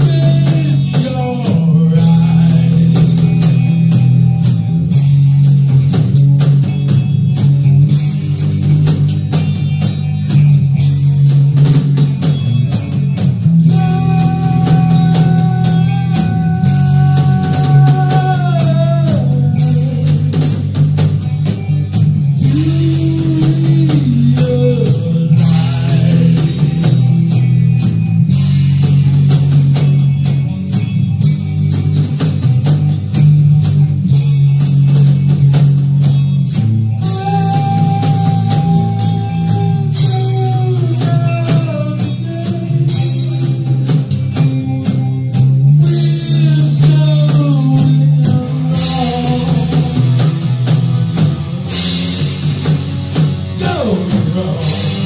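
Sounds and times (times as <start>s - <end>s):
drum and cymbal hits: 0.0s - 55.0s
electric guitar lead notes: 0.0s - 55.0s
hard rock band playing: 0.0s - 55.0s.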